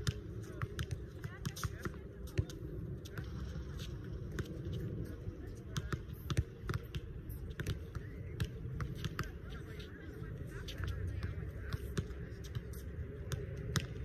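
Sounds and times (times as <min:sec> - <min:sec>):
basketballs bouncing: 0:00.0 - 0:14.0.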